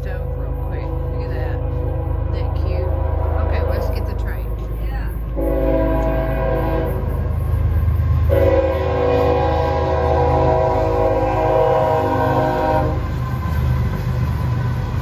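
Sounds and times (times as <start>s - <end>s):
train horn blast: 0.0s - 7.4s, 8.2s - 13.2s
passing train rumble: 0.0s - 15.0s.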